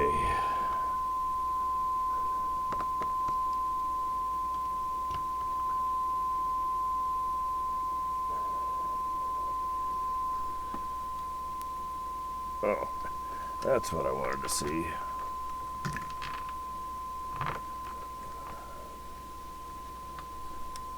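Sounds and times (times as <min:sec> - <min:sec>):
low hum: 0:00.0 - 0:20.9
steady audio test tone: 0:00.0 - 0:20.9.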